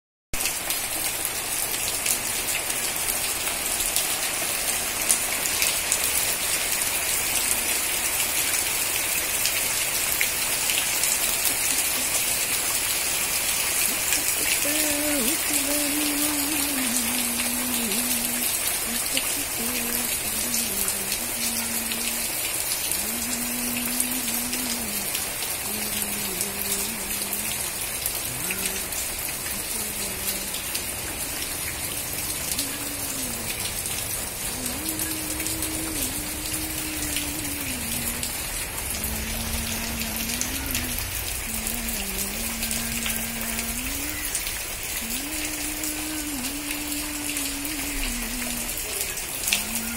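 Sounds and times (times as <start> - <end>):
rain falling on leaves: 0.4 - 49.9.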